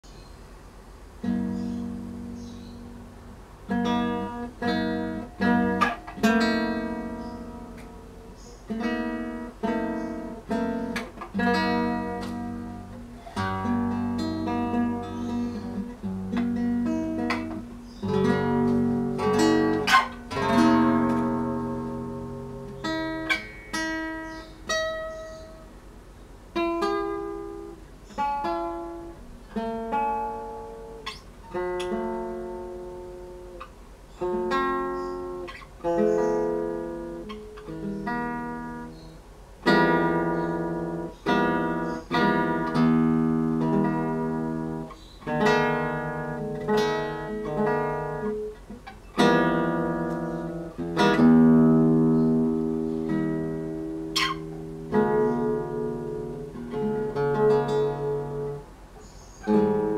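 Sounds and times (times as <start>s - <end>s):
acoustic guitar plucking chords: 1.0s - 59.9s.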